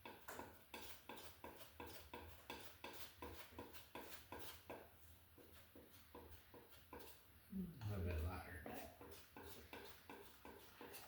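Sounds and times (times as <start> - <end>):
palette knife mixing paint: 0.0 - 11.0.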